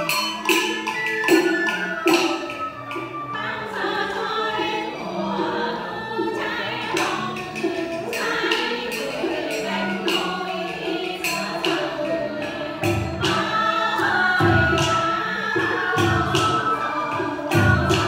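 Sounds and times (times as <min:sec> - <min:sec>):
folk singing: 0:01.7 - 0:18.0.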